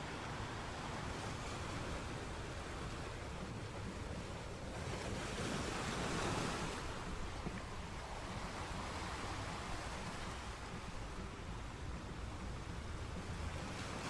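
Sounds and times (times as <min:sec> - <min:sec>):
sea waves washing in: 0:00.0 - 0:14.0.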